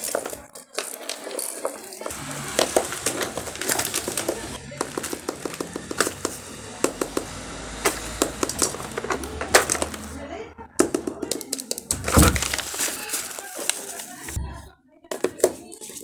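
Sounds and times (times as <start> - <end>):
plastic fidget toys clicking: 0.0 - 10.2, 10.8 - 14.5.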